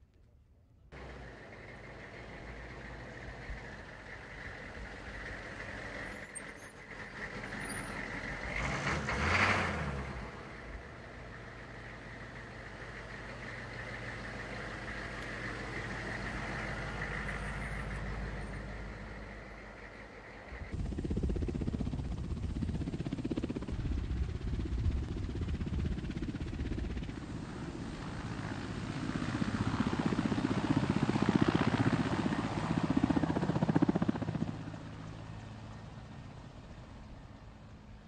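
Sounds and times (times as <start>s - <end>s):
helicopter rotor blades beating: 1.0s - 8.6s, 10.0s - 37.9s.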